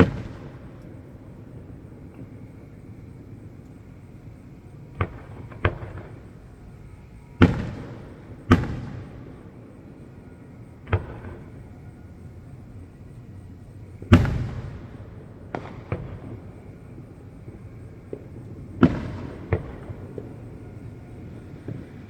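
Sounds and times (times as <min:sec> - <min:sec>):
fireworks booming: 0:00.0 - 0:22.0.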